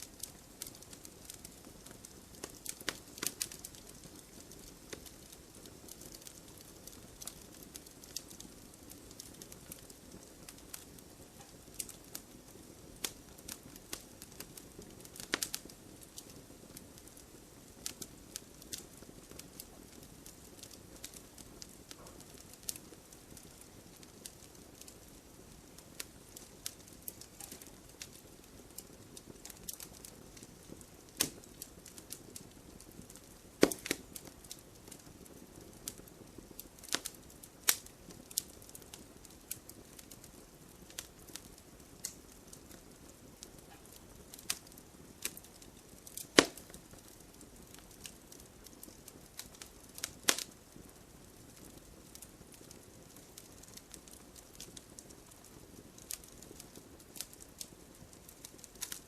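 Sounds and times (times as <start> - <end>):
firewood crackling and popping: 0.0 - 59.0
flames rushing: 0.1 - 59.0.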